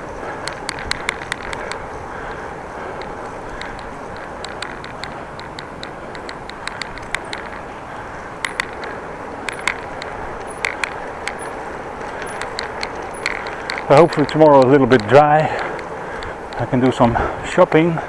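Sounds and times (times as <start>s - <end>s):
bicycle clicks and rattles: 0.0s - 18.0s
wind and tyre noise: 0.0s - 18.0s.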